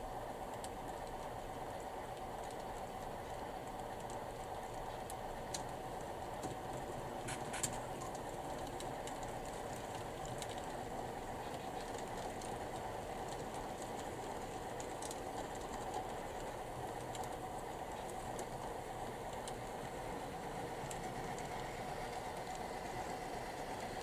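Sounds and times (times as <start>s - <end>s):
model train rolling hum: 0.0s - 24.0s
faint track clicks: 0.5s - 23.2s.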